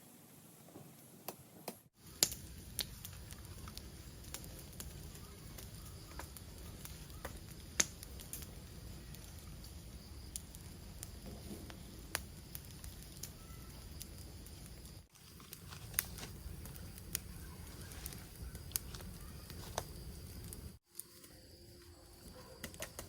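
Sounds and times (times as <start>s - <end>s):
fire crackling and popping: 0.5s - 23.0s.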